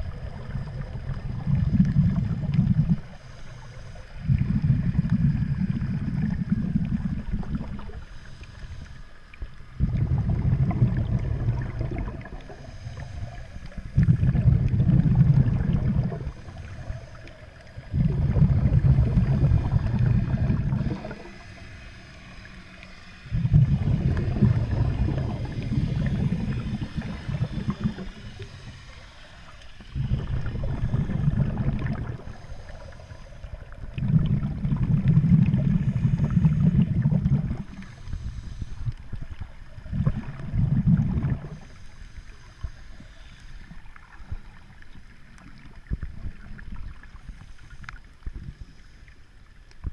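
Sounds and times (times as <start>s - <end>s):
underwater exhaled bubbles: 0.0s - 49.9s.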